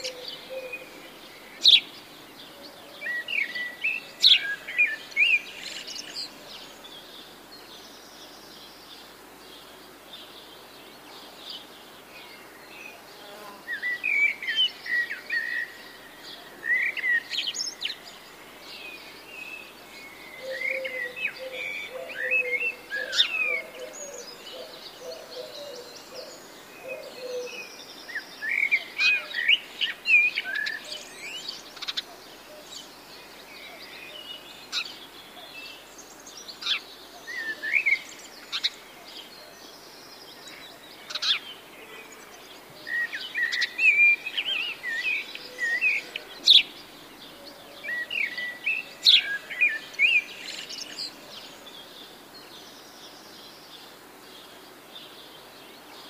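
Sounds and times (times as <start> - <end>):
birds chirping and trilling: 0.0 - 56.0
steady outdoor hiss: 0.0 - 56.0.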